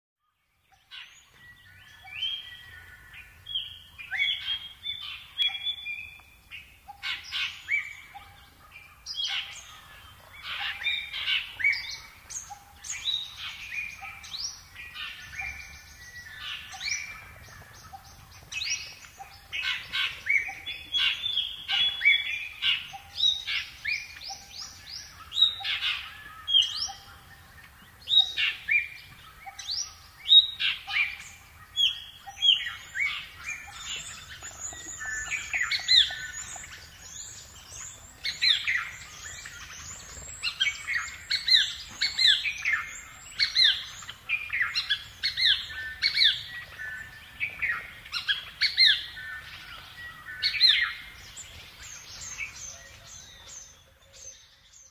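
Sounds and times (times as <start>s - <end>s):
birds chirping and singing: 0.2s - 54.9s.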